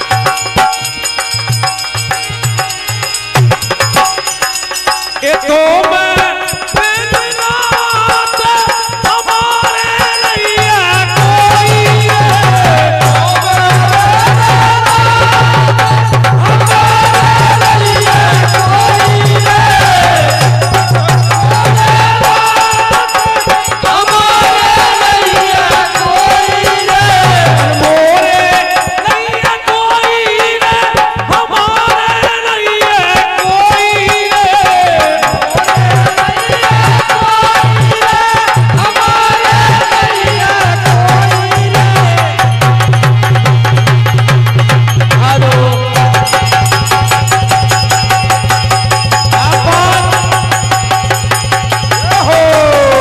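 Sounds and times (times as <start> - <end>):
jingling tambourine: 0.0 - 31.0, 33.4 - 53.0
dholak drum rhythm: 0.0 - 53.0.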